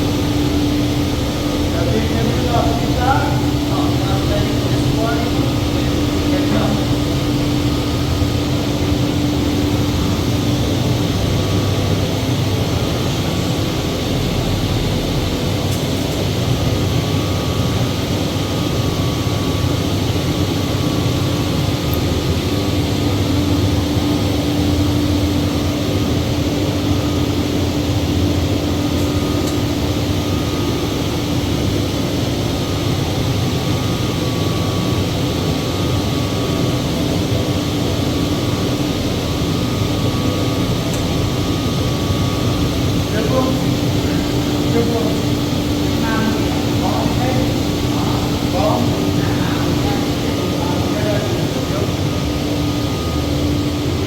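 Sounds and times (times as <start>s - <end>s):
engine-like drone: 0.0s - 54.0s.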